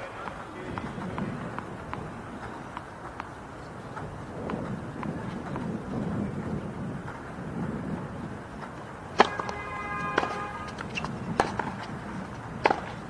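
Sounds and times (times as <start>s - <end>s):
low outdoor background: 0.0s - 13.0s
tennis ball struck by rackets: 0.0s - 13.0s.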